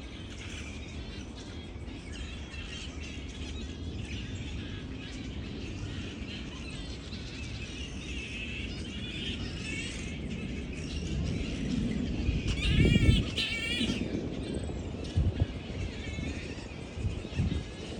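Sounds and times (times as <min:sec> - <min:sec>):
flying foxes chattering: 0:00.0 - 0:17.9.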